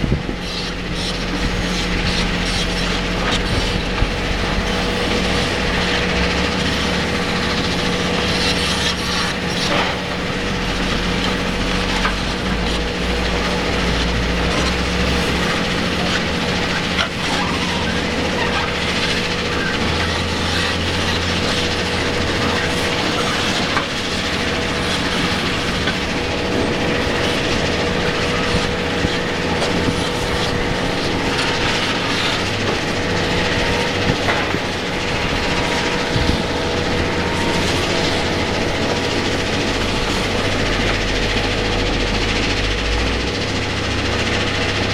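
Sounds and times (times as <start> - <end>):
excavator diesel engine rumbling: 0.0 - 44.9
rock crushers humming and clattering: 0.0 - 44.9.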